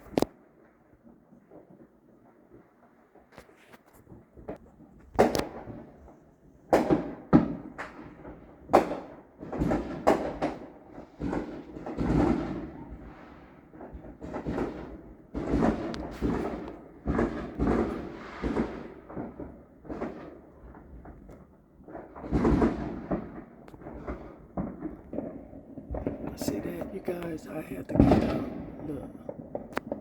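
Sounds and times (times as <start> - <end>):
fireworks bangs: 0.0 - 0.4, 3.2 - 30.0.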